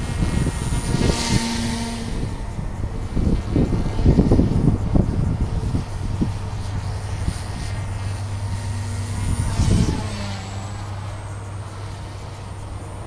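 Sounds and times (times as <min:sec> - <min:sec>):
rc helicopter whine: 0:00.0 - 0:13.0.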